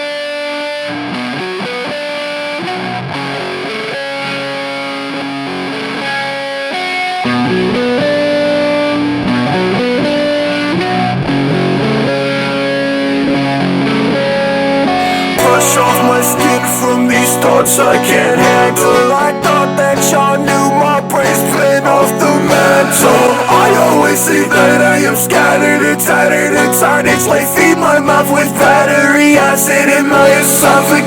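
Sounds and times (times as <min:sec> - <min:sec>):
distorted guitar held notes: 0:00.0 - 0:31.0.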